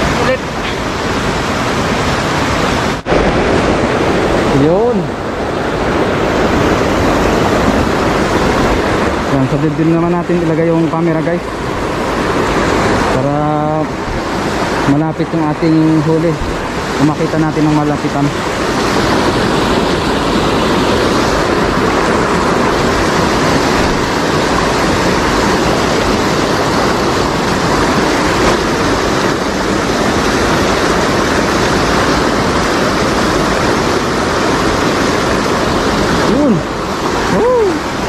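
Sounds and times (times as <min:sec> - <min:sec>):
river water rushing over weir: 0:00.0 - 0:38.0.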